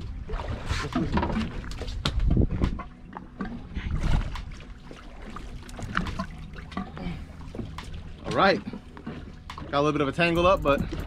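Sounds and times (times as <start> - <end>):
water sloshing against boat hull: 0.0 - 11.0.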